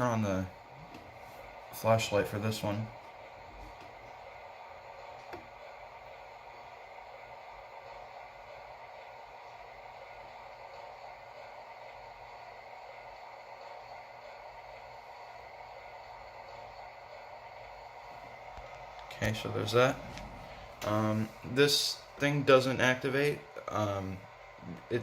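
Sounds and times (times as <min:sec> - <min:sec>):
faint hiss with low hum: 0:00.0 - 0:25.0.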